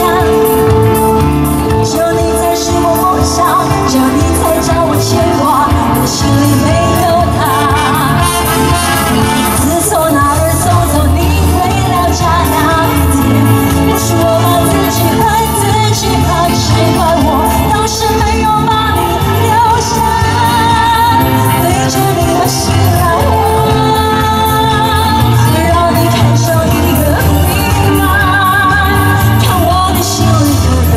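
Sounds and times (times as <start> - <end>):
live band with electric guitar: 0.0 - 30.9
woman singing pop song: 0.0 - 30.9.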